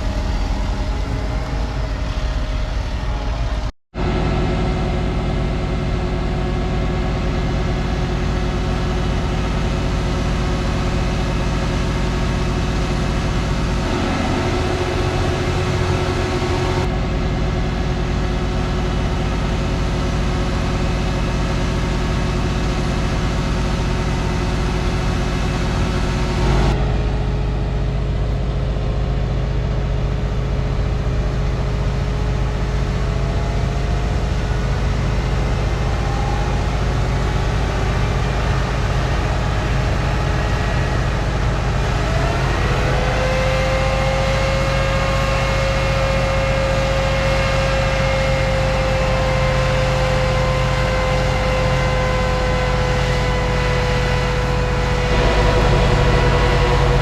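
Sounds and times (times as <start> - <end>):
farm machinery engine droning: 0.0 - 57.0
rising whine: 0.0 - 57.0.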